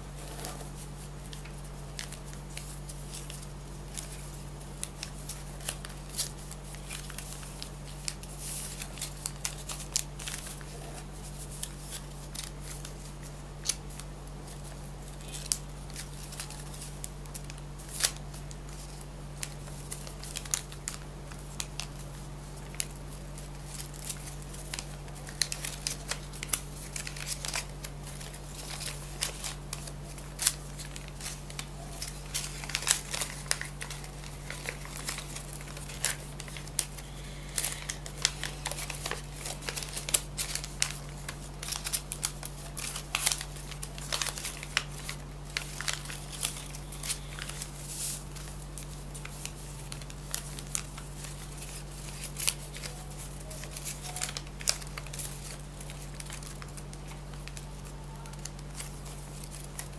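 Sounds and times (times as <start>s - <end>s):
low electrical hum: 0.0s - 59.9s
paper crinkling and creasing: 0.0s - 59.9s.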